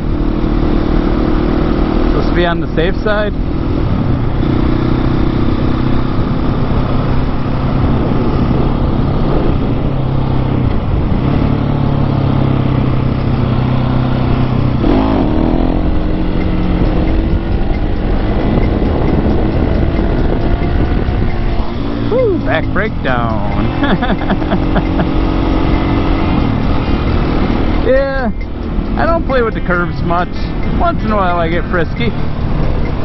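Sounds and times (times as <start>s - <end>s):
motorcycle engine running: 0.0s - 33.0s
rushing wind: 0.0s - 33.0s.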